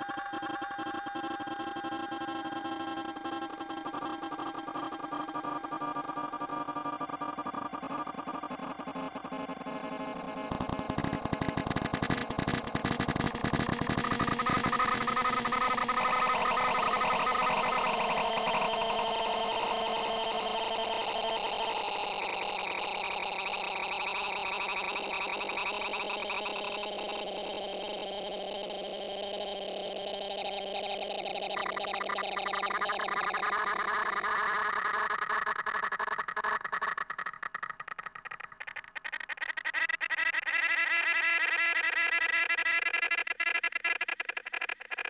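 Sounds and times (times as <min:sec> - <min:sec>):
distorted stuttering cartoon tones: 0:00.0 - 0:45.0.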